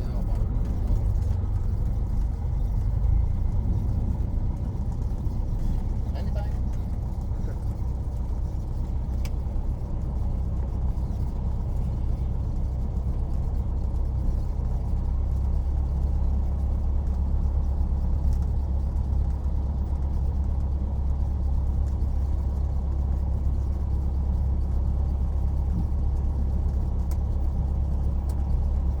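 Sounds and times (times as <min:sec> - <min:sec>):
light aircraft engine drone: 0:00.0 - 0:29.0.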